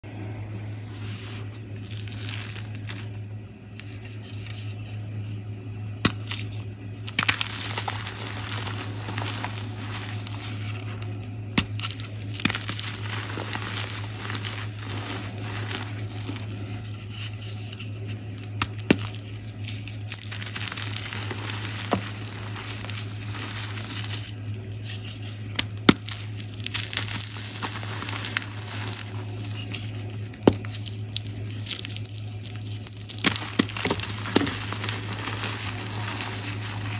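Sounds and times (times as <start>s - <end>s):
steady low hum: 0.0s - 36.9s
powder crunching and crumbling: 0.7s - 36.9s
powder block cracking: 1.7s - 4.8s, 6.0s - 36.9s.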